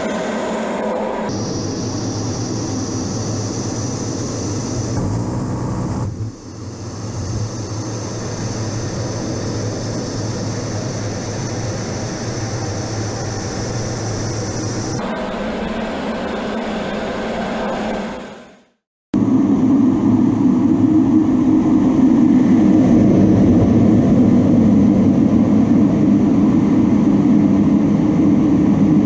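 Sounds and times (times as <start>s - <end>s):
jet engines humming and whining: 0.0s - 29.0s.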